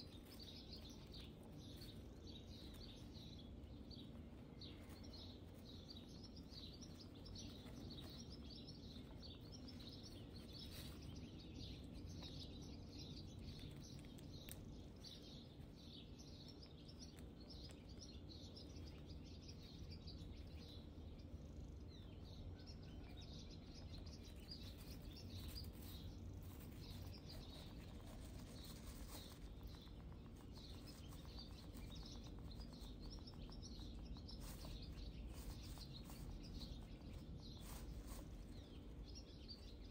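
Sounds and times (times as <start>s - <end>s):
rustling in wood shavings: 0.0s - 21.0s, 22.2s - 39.9s
hamster gnawing corn: 0.0s - 39.9s.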